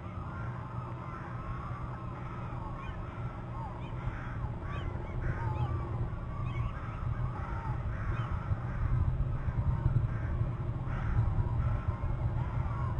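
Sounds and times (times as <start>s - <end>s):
birds calling: 0.0s - 12.9s
steady low rumble: 0.0s - 12.9s.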